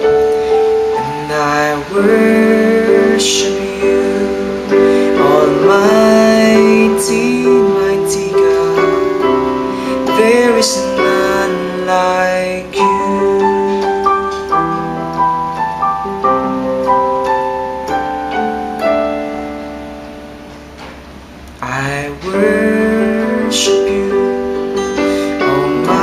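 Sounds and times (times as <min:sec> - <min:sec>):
slow keyboard piano melody: 0:00.0 - 0:26.0.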